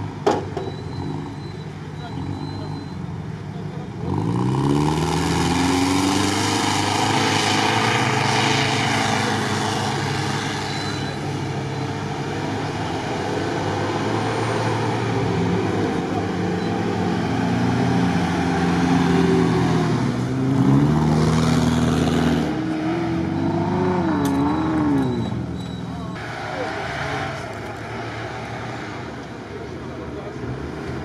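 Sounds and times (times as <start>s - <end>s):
suv engine revving: 3.9s - 29.6s.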